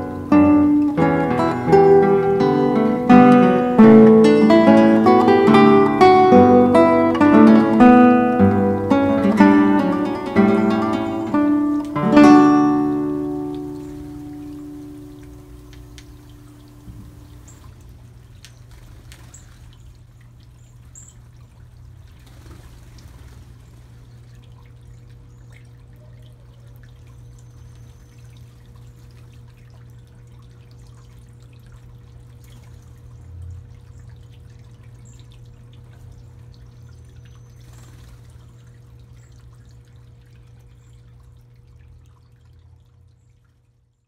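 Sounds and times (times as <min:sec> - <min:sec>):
fountain water trickling and splashing: 0:00.0 - 0:44.0.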